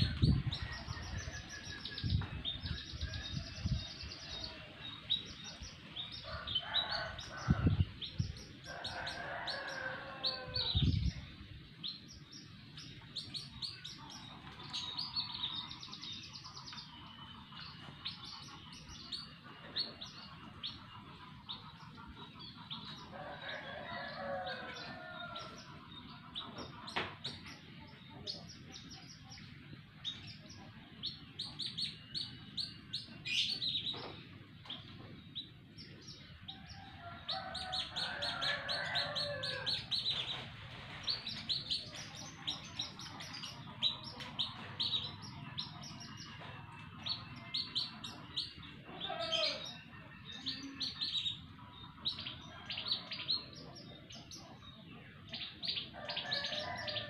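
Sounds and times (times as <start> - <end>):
canaries singing: 0.0 - 57.0.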